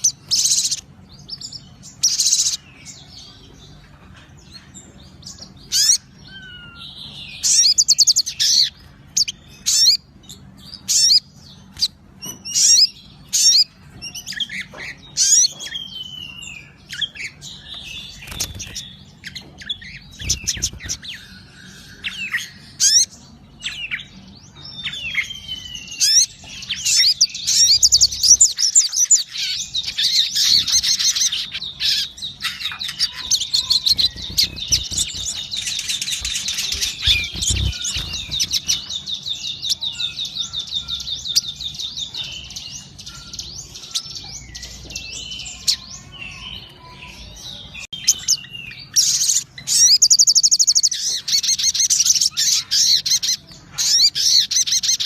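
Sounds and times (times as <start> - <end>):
songbird singing with trills: 0.0 - 55.0.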